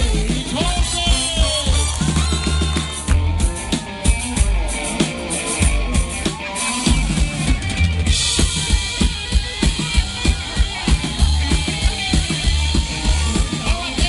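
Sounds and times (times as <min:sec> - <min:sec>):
big band playing: 0:00.0 - 0:14.0.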